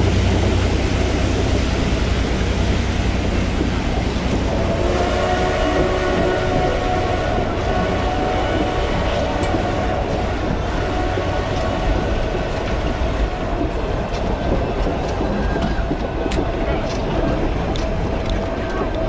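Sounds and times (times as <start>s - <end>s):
train coaches rumbling on track: 0.0s - 19.0s.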